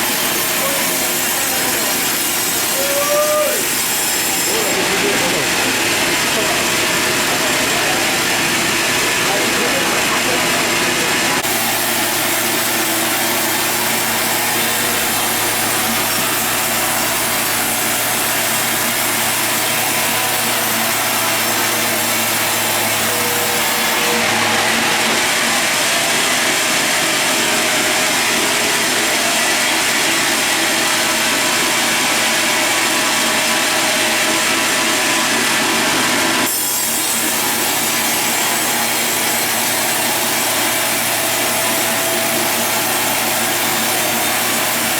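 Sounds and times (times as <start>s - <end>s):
saw cutting through log: 0.0s - 44.9s.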